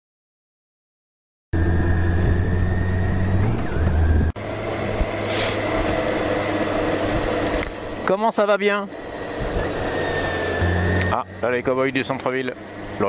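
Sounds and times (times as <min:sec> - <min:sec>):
motorcycle engine running: 0:01.6 - 0:08.0, 0:09.0 - 0:13.0.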